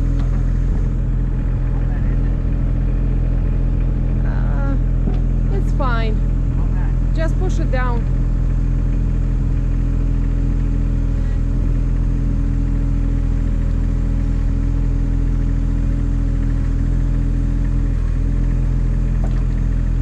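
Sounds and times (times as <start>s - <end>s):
machine engine running steadily: 0.0s - 20.0s.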